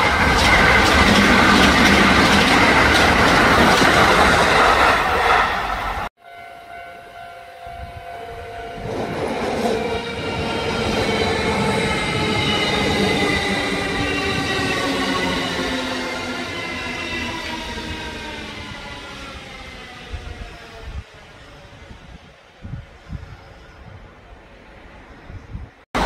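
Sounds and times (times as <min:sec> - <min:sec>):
train rushing: 0:00.0 - 0:06.1, 0:08.7 - 0:26.0
train humming tones: 0:00.0 - 0:22.0.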